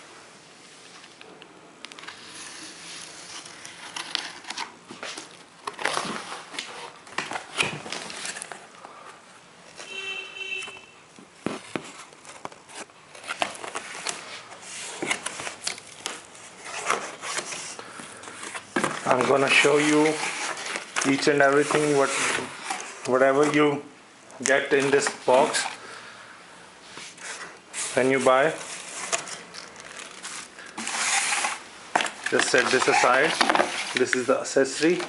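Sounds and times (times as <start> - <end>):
packaging crinkling and rustling: 1.9 - 9.9, 11.4 - 23.7, 24.4 - 25.8, 27.1 - 35.0.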